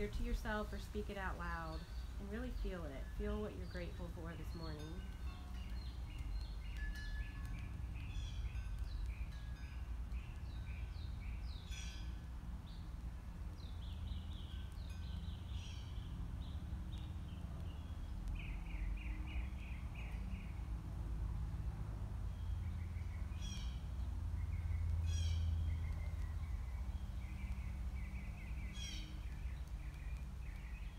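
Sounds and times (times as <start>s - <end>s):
low outdoor rumble: 0.0s - 30.9s
songbirds chirping and singing: 0.0s - 30.9s.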